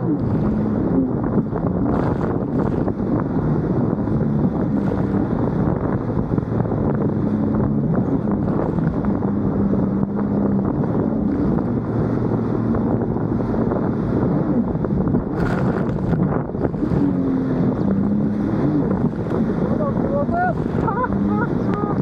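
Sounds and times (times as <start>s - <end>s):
watercraft engine drone: 0.0s - 22.0s
wind buffeting microphone: 0.0s - 22.0s.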